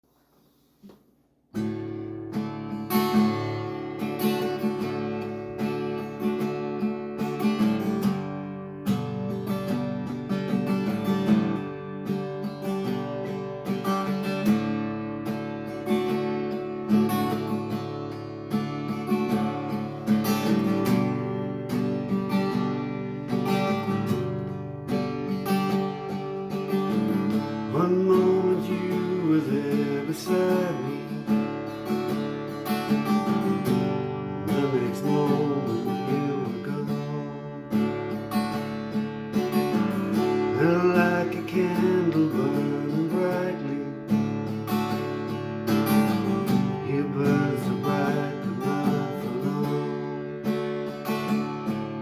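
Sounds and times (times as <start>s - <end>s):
acoustic guitar strumming: 0.4s - 52.0s.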